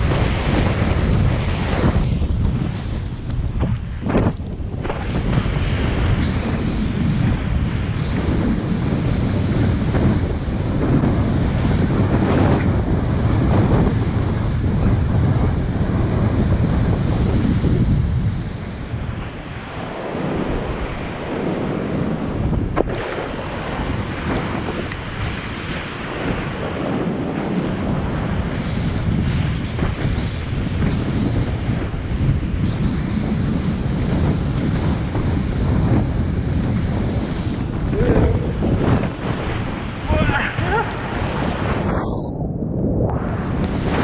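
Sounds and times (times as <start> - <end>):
rushing water and waves: 0.0 - 44.0
wind buffeting microphone: 0.0 - 44.0.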